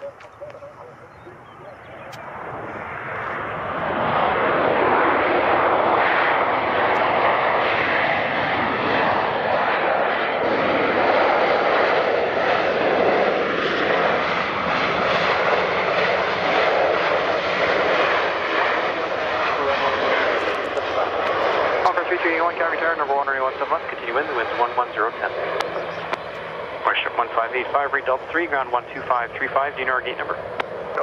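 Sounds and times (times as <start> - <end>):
jet engines running loud: 0.0 - 31.0.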